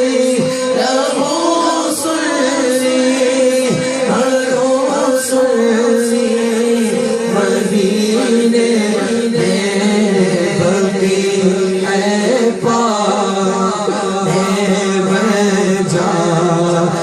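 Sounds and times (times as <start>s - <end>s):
man singing long held notes: 0.0s - 17.0s.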